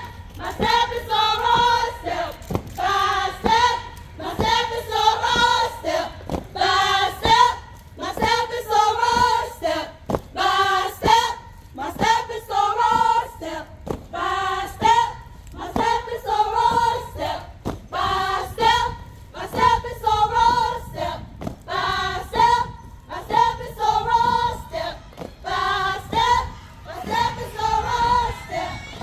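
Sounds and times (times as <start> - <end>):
women chanting in unison: 0.0 - 29.0.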